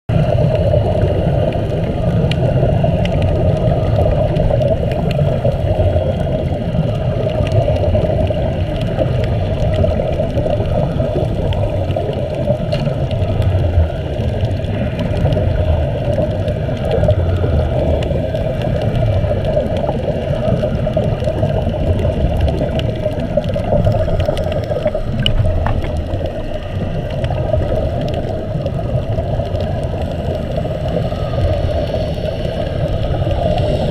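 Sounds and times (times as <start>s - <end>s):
muffled underwater rumble and hiss: 0.1s - 33.9s.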